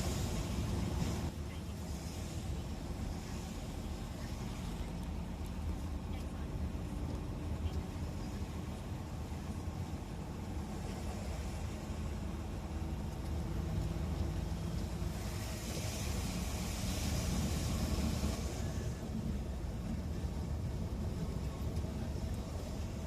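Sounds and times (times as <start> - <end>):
car driving: 0.0 - 23.0
tyres hissing through water: 0.0 - 23.0.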